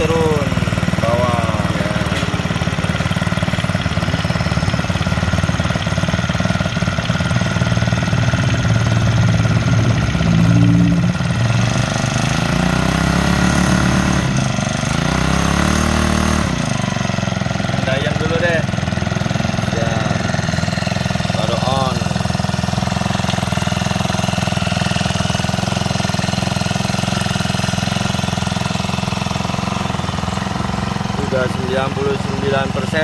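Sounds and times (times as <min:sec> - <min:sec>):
brush cutter engine idling and revving: 0:00.0 - 0:33.0.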